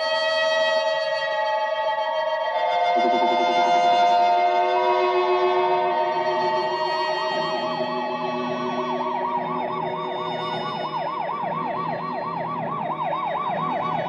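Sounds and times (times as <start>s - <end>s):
police siren wailing: 0.0s - 14.0s
steady music tones: 0.0s - 14.0s.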